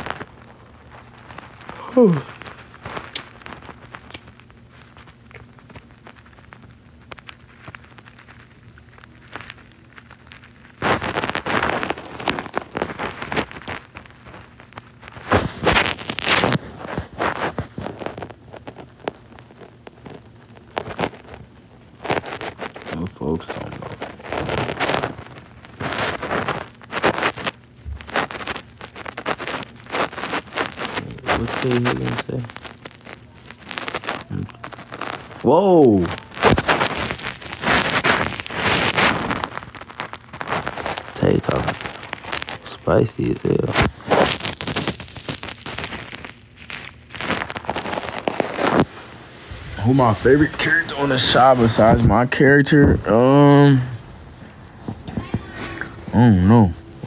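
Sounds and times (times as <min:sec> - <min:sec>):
fabric rubbing on microphone: 0:00.0 - 0:57.0.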